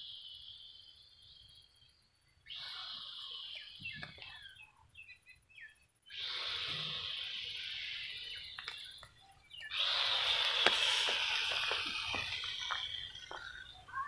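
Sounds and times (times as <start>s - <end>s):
high insect drone: 0.0s - 4.6s, 6.0s - 14.0s.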